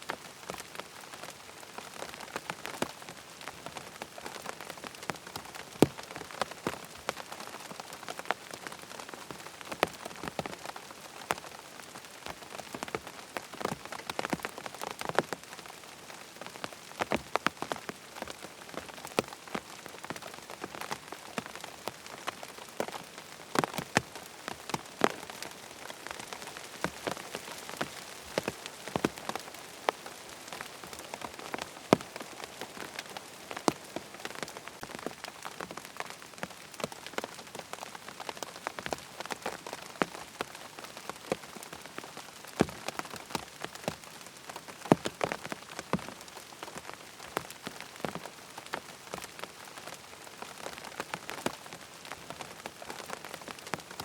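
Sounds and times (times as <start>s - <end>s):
rain on a tent: 0.0s - 54.0s.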